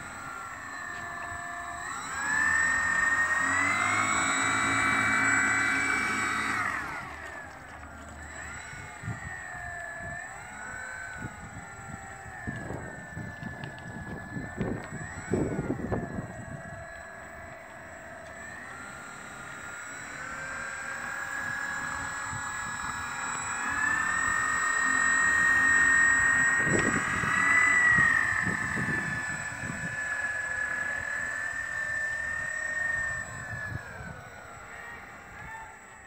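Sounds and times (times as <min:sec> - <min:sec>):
electric motors high whine: 0:00.0 - 0:36.0.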